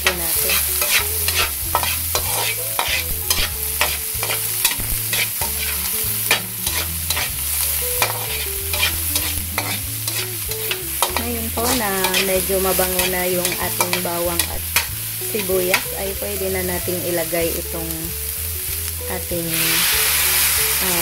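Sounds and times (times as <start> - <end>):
oil sizzling: 0.0 - 21.0.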